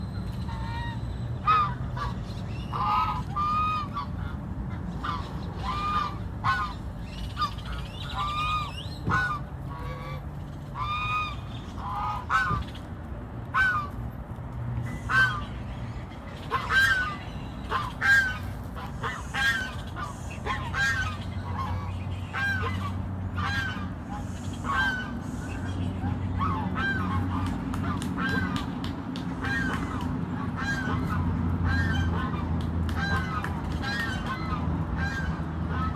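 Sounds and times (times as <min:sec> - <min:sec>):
geese honking: 0:00.4 - 0:12.8, 0:13.5 - 0:14.0, 0:14.9 - 0:35.9.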